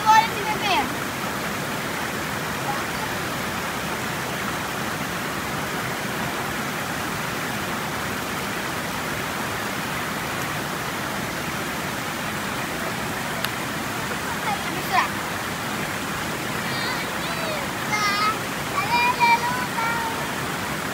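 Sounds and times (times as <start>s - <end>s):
small waterfall rushing over rock: 0.0s - 20.9s.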